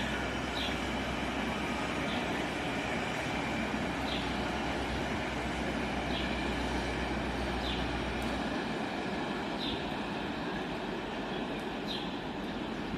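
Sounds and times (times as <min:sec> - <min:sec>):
diesel locomotive engine running: 0:00.0 - 0:12.9.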